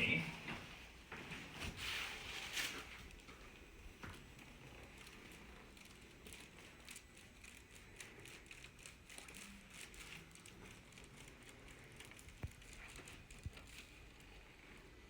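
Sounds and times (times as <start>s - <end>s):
faint rustling on table: 0.4s - 15.0s.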